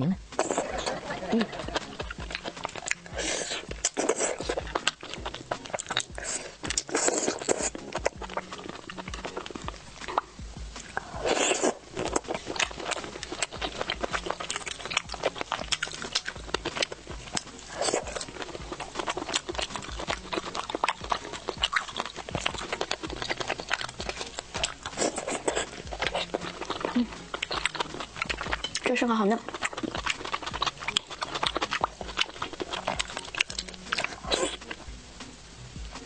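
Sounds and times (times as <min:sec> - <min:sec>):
lip smacking: 0:00.3 - 0:35.0
slurping food: 0:00.4 - 0:34.9
wet chewing: 0:00.4 - 0:35.0.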